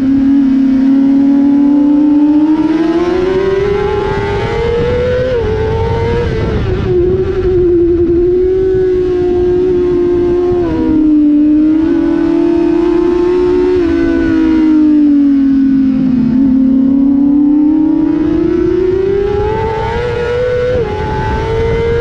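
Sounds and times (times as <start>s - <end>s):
motorcycle engine high revs: 0.0s - 22.0s
wind rush: 0.0s - 22.0s.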